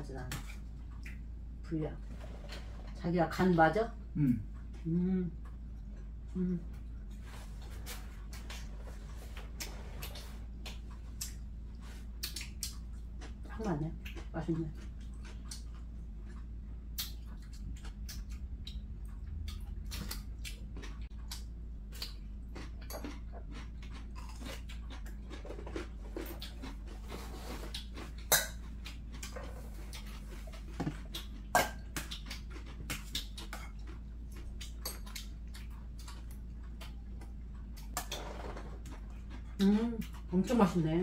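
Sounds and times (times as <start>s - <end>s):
steady low hum: 0.0s - 41.0s
chewing: 4.4s - 40.8s.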